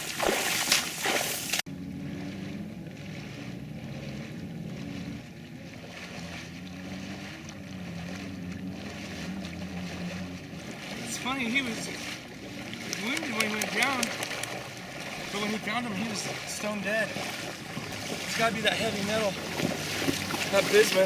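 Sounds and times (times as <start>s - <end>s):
loud splashing in water: 0.0s - 1.6s, 5.7s - 21.0s
distant engine drone: 1.7s - 21.0s.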